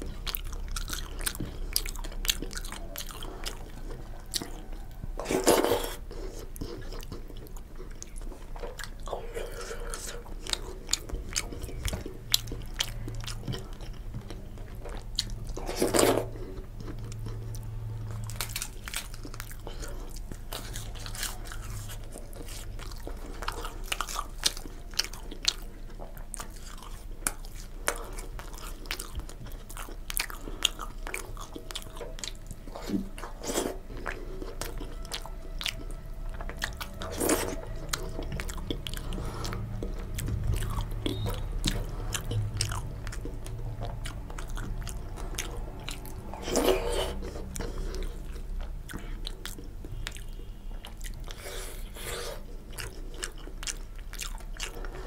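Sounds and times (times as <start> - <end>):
wet chewing and lip smacks: 0.0 - 55.0.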